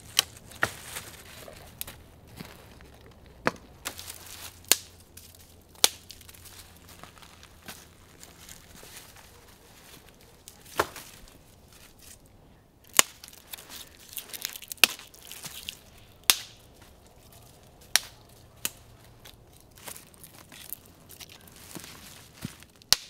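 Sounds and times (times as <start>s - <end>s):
dry branches snapping: 0.0s - 23.0s
twigs crackling and rustling: 0.0s - 23.0s.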